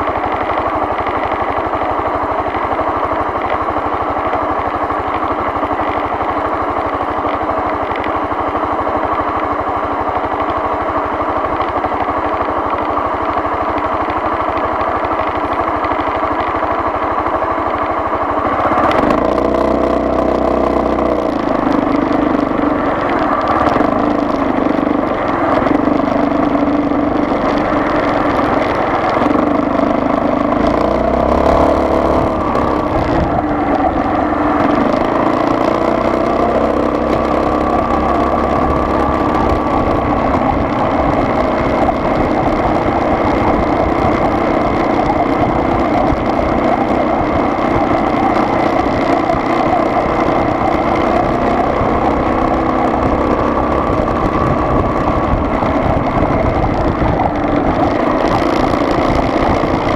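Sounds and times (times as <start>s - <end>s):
car engine while driving: 0.0s - 59.9s
road noise: 0.0s - 59.9s.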